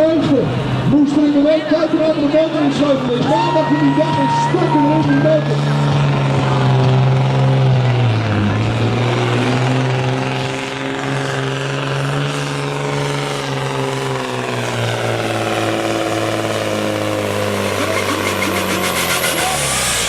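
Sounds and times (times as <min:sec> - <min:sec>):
diesel truck engine revving hard: 0:00.0 - 0:20.0.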